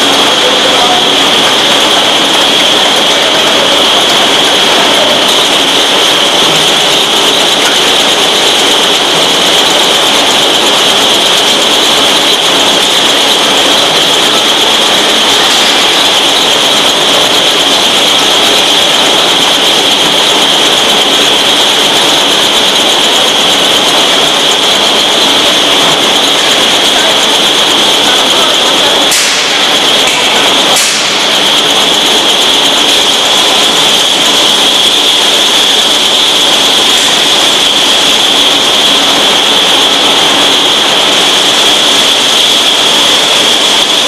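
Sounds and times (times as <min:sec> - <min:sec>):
machinery running with high hiss: 0:00.0 - 0:44.0.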